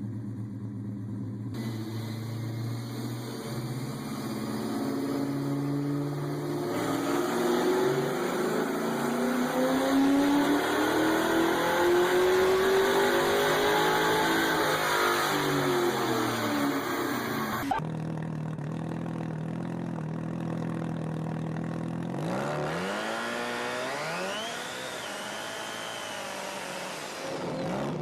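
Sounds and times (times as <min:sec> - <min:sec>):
car engine accelerating: 0:01.5 - 0:19.8, 0:21.2 - 0:28.0.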